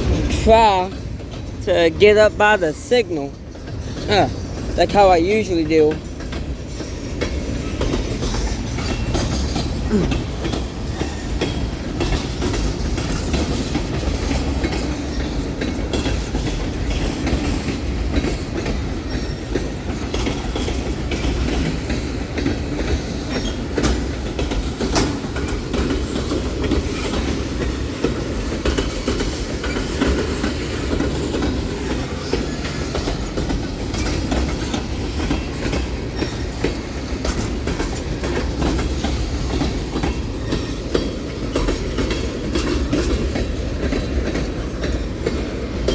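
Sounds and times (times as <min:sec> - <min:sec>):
train wheels rumbling on rails: 0:00.0 - 0:45.9
wheels clicking over rail joints: 0:00.0 - 0:45.9.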